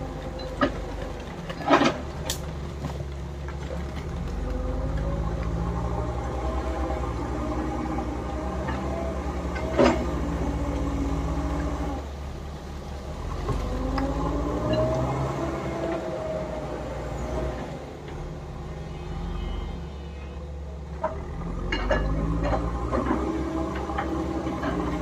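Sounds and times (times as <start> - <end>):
diesel engines working: 0.0 - 25.0.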